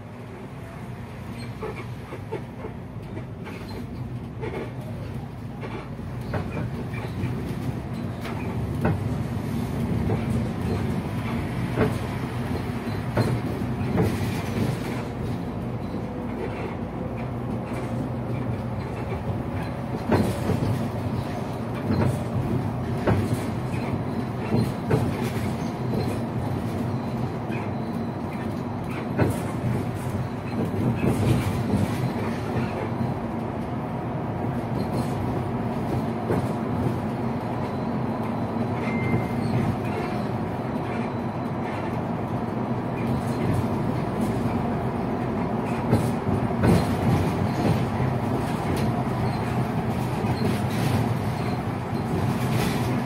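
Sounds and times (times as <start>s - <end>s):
bus engine and road drone: 0.0s - 53.0s.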